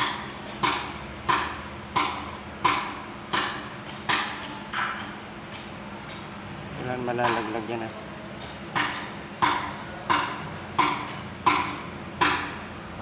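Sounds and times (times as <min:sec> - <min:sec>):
hammer tapping on metal: 0:00.0 - 0:06.3, 0:07.2 - 0:07.7, 0:08.5 - 0:12.7.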